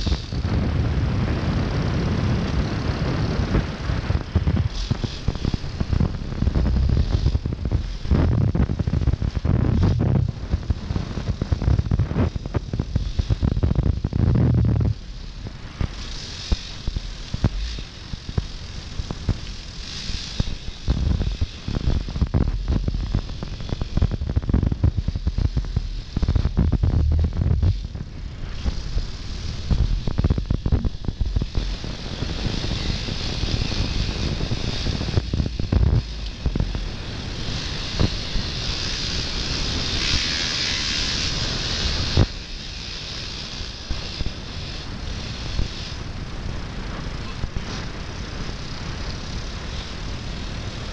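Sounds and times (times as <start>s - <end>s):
motocross bike engine: 0.0s - 50.9s
wind buffeting microphone: 0.0s - 50.9s.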